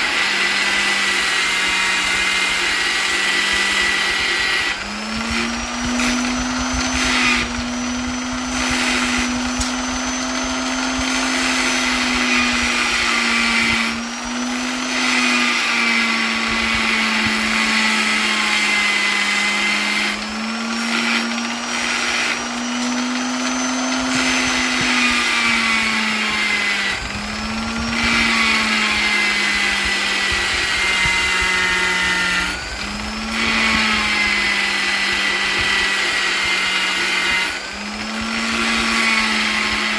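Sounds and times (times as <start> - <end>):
electric polisher motor hum: 0.0 - 39.9
high whine: 3.6 - 39.9.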